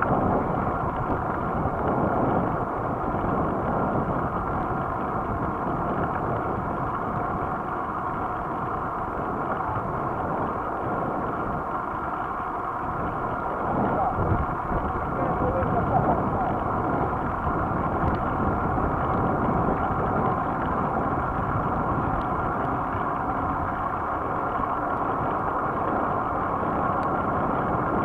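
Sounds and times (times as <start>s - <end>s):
bicycle road noise on asphalt: 0.0s - 28.0s
wind buffeting microphone: 0.0s - 28.0s.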